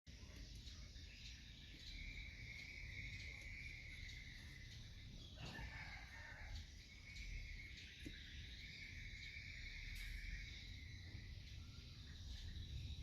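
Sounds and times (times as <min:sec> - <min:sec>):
high-pitched insect chirring: 0:00.1 - 0:13.0.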